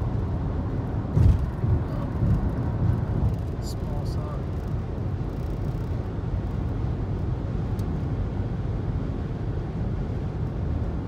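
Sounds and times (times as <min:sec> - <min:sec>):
car tyre and engine rumble: 0:00.0 - 0:11.0.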